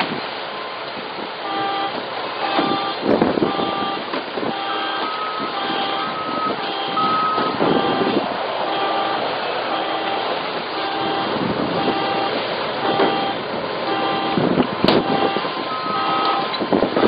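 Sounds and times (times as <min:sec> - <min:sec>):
outdoor noise: 0:00.0 - 0:17.0
reversing alarm beeping: 0:01.4 - 0:17.0.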